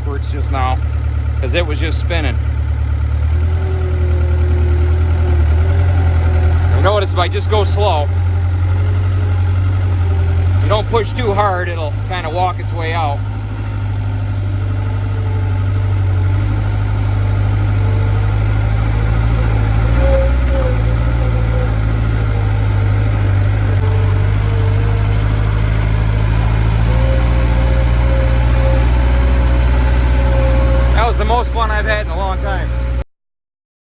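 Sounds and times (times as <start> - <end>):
engine whine: 0.0 - 33.0
skid steer engine running: 0.0 - 33.0.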